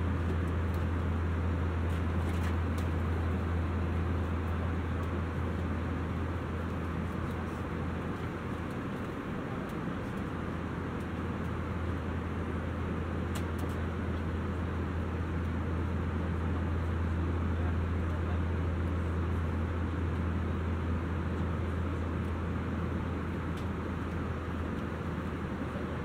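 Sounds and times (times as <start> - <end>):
airliner cabin engine drone: 0.0 - 26.0.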